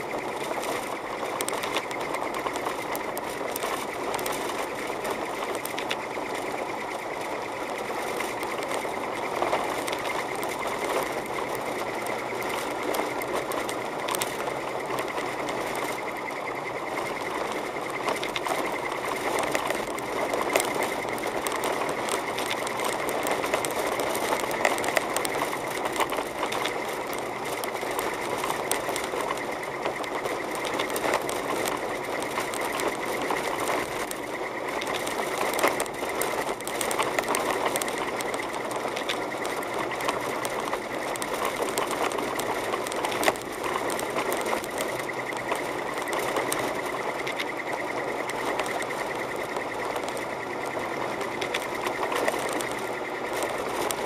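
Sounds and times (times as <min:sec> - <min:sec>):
car driving on snow: 0:00.0 - 0:54.0.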